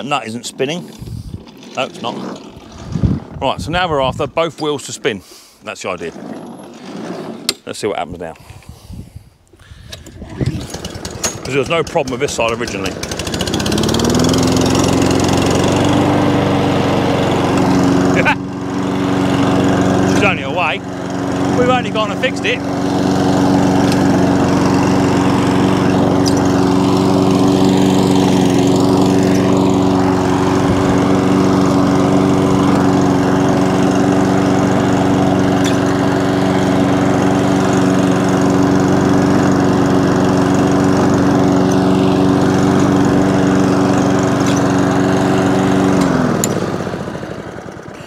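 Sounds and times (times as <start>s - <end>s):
lawn mower engine running: 0.0s - 5.4s, 6.0s - 7.7s, 9.8s - 48.0s.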